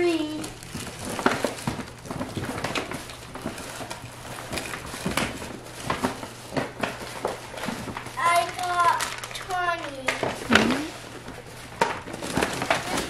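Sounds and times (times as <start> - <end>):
plastic cups clicking and rustling: 0.0 - 13.0.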